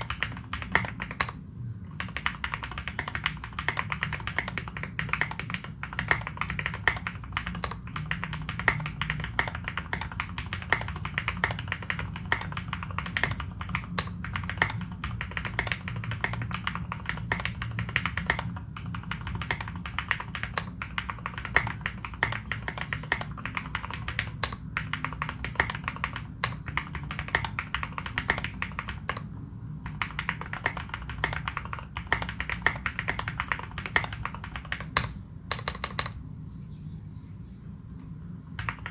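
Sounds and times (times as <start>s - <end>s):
fast mechanical keyboard typing: 0.0s - 36.2s, 38.5s - 38.9s.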